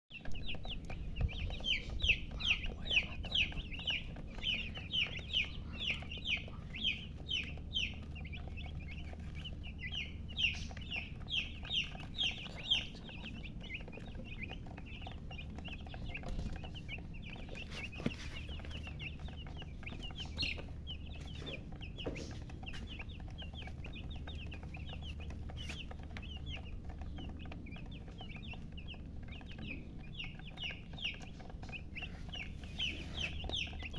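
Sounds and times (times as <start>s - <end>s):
baby chicks peeping: 0.1s - 33.9s.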